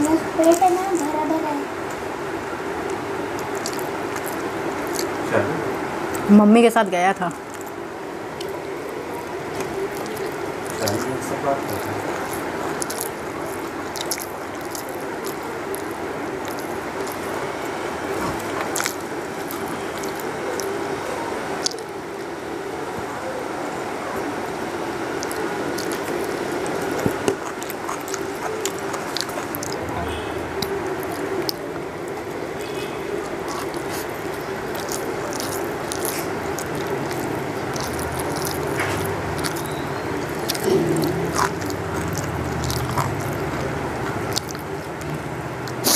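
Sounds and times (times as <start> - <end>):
wet chewing: 0.0 - 6.3, 7.1 - 22.3, 24.4 - 45.9
steady low hum: 0.0 - 45.9.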